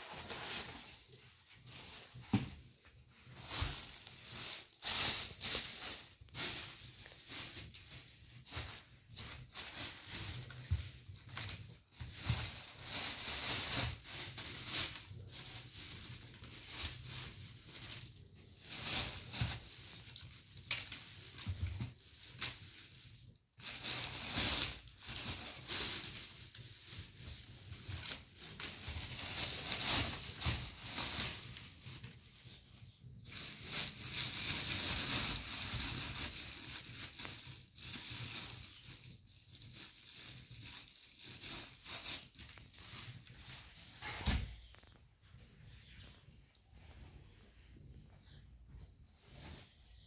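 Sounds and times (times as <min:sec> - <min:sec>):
plastic bags crinkling: 0:00.0 - 0:45.0.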